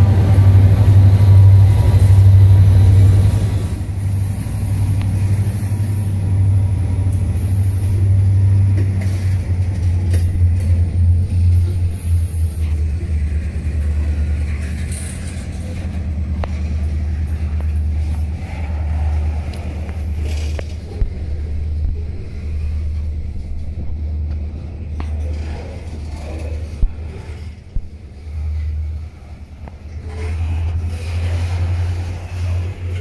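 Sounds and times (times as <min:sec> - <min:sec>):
freight train wheels rumbling on rails: 0:00.0 - 0:33.0
sharp clicks of train wheels: 0:00.0 - 0:33.0.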